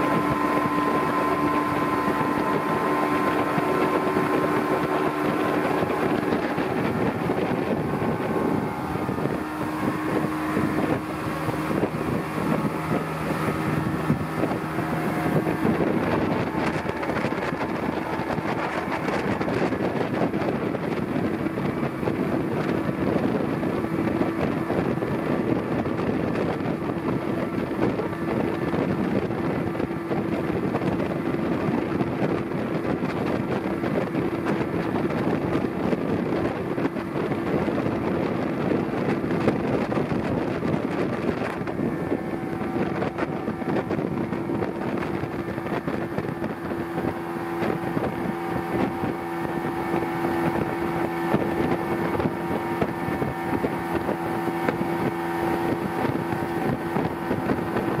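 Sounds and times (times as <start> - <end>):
outboard motor droning: 0.0 - 58.0.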